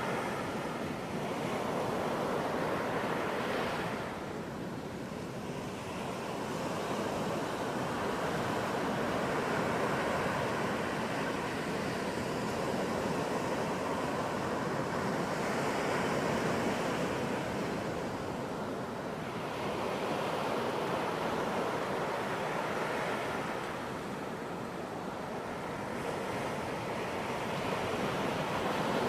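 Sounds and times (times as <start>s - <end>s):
ocean waves washing onto beach: 0.0s - 29.0s.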